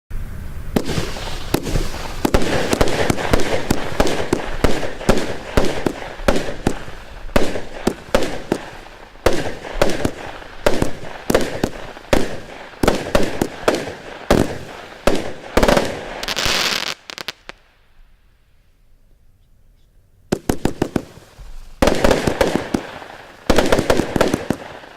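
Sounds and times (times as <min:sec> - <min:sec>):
firework bangs: 0:00.7 - 0:17.6, 0:20.3 - 0:24.9.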